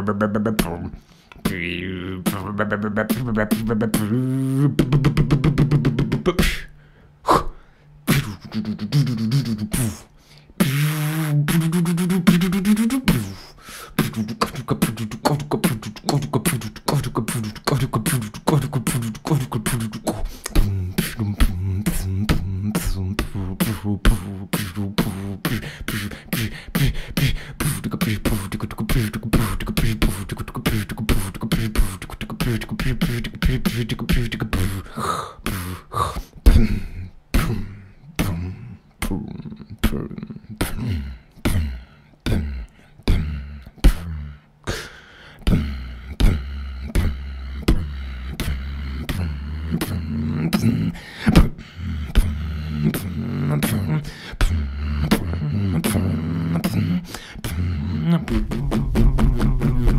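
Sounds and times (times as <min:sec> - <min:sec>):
man beatboxing: 0:00.0 - 0:06.7, 0:07.3 - 0:59.9.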